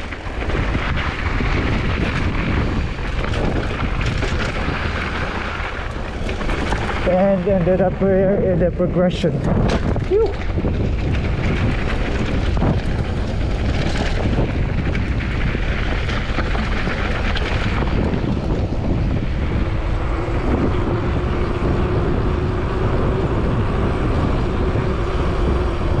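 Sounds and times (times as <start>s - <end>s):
low hum: 0.0s - 26.0s
road rumble: 0.0s - 26.0s
wind buffeting microphone: 0.0s - 26.0s.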